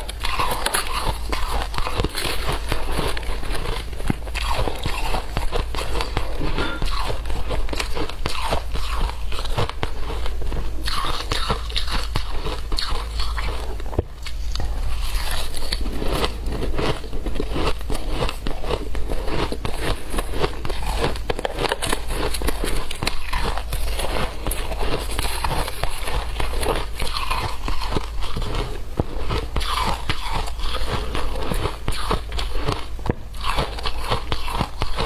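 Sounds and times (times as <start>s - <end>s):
crunching shaved ice: 0.0s - 35.0s.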